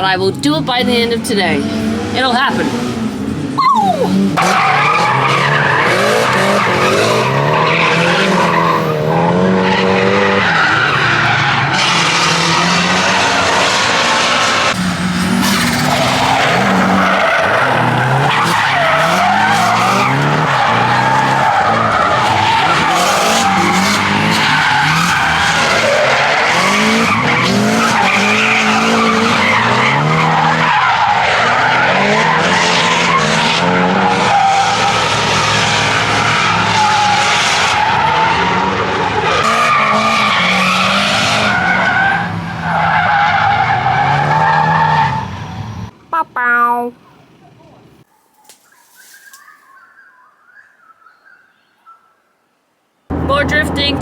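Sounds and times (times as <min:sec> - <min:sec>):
tyres skidding and squealing: 0:00.0 - 0:46.2
car engine revving hard: 0:01.0 - 0:45.9.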